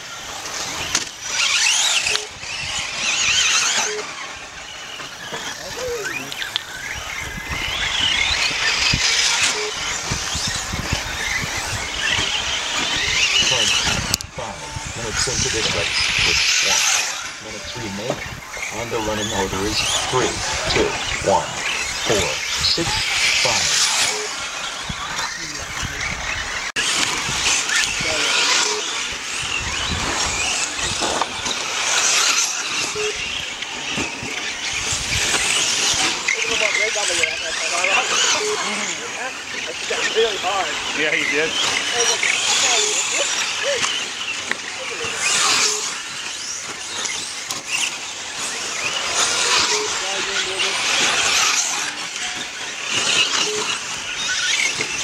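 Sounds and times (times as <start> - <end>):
rc car motors whining: 0.0 - 55.0.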